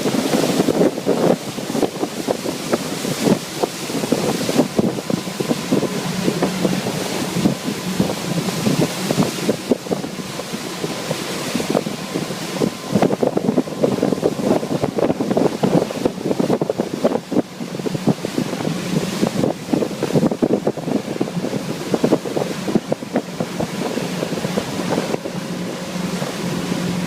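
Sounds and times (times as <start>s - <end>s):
boat engine drone: 0.0s - 27.0s
water rushing: 0.0s - 27.0s
wind buffeting the microphone: 0.0s - 27.0s.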